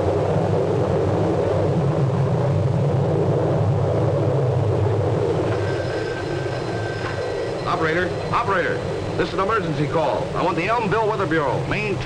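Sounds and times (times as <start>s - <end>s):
faint thin steady tones: 0.0s - 12.0s
rumbling tornado wind: 0.0s - 12.0s.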